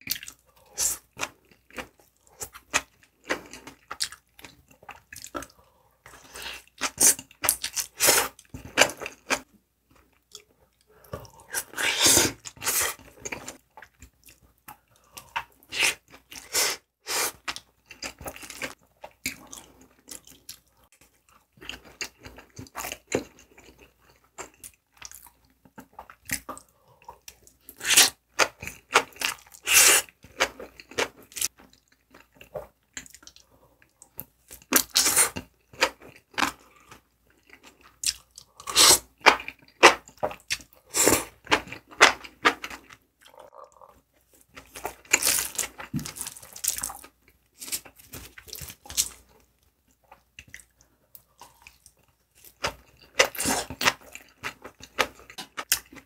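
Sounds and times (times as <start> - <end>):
person chewing noodles: 0.1 - 56.0.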